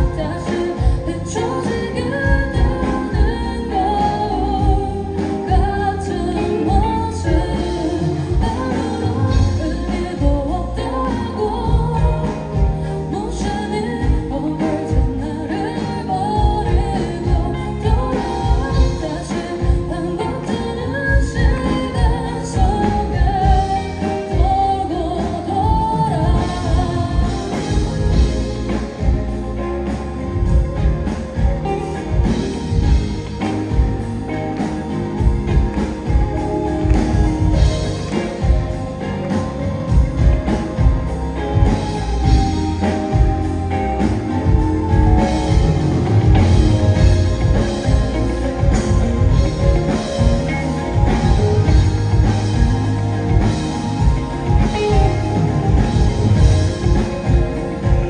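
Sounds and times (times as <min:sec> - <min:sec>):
drums: 0:00.0 - 0:58.0
electric guitar: 0:00.0 - 0:58.0
woman singing: 0:00.0 - 0:58.0.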